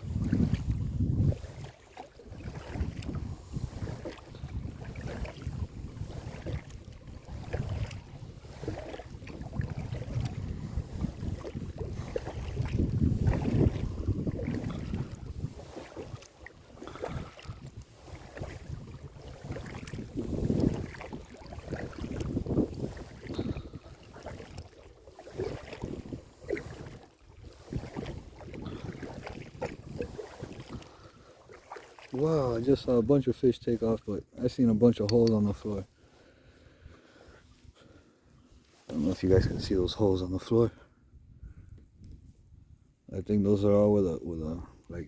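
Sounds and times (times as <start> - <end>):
wind buffeting microphone: 0.0 - 35.8, 38.8 - 43.0
water splashing and lapping: 0.0 - 40.9.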